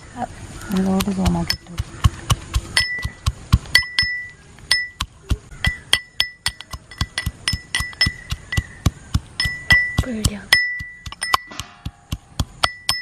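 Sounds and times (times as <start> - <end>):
metal pestle pounding in mortar: 1.0 - 13.0.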